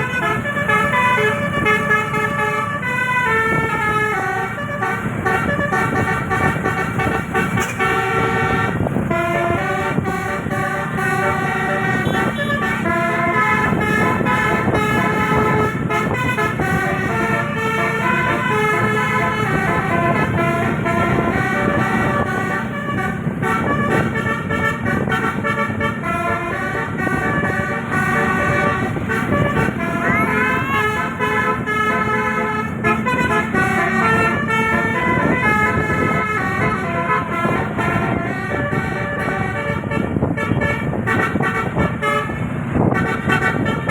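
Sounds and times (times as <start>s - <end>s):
multi-tone bus horn melodies: 0.0s - 43.9s.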